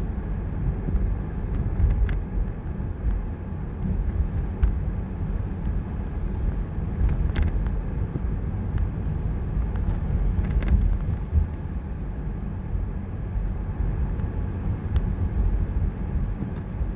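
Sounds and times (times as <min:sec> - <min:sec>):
road and engine rumble: 0:00.0 - 0:16.9.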